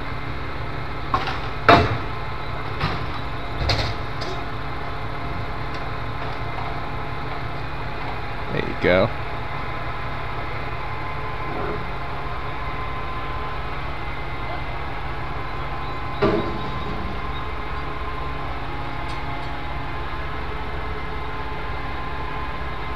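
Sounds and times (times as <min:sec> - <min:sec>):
low mechanical rumble: 0:00.0 - 0:22.9
faint whine tones: 0:02.0 - 0:22.9.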